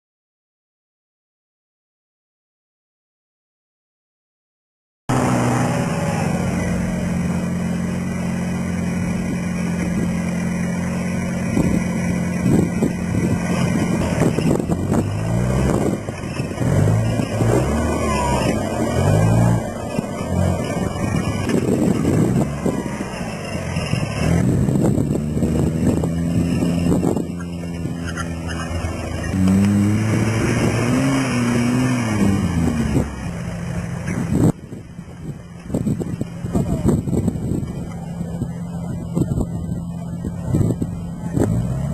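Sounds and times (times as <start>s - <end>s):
truck engine revving: 5.1s - 34.6s, 35.6s - 41.9s.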